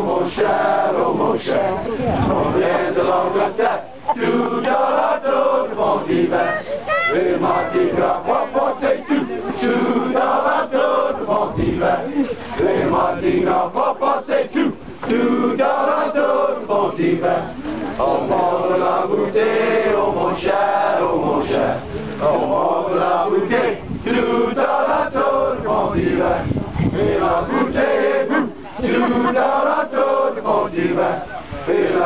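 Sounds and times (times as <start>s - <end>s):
crowd chanting: 0.0s - 32.0s.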